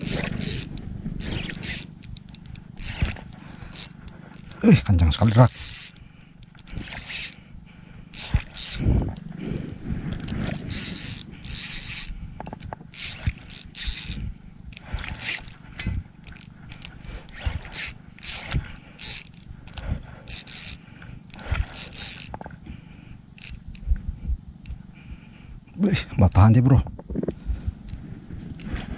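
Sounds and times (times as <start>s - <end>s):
fishing reel drag clicking: 0.0s - 22.6s, 23.3s - 23.9s, 24.6s - 24.9s, 27.3s - 28.7s.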